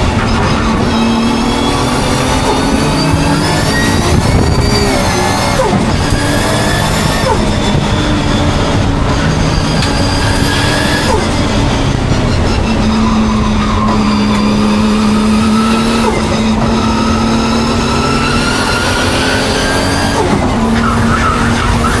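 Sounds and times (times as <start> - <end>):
car engine pulling hard: 0.0 - 22.0.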